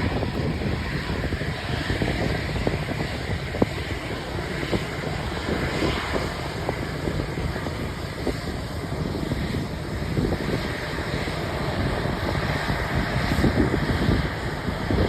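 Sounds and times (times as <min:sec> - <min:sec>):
distant jet engine noise: 0:00.0 - 0:15.0
wind buffeting microphone: 0:00.0 - 0:15.0.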